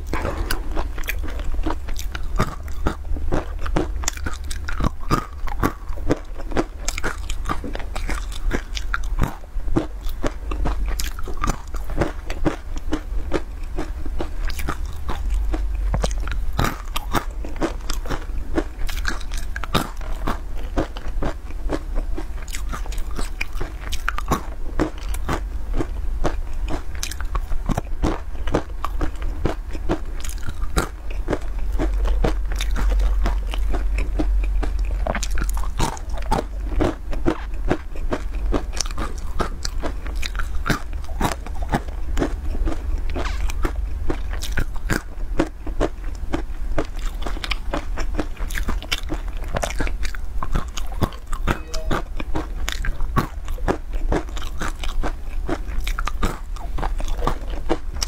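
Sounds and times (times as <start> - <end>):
crisp crunching of nuts: 0.0 - 58.0
steady low hum: 0.0 - 58.0.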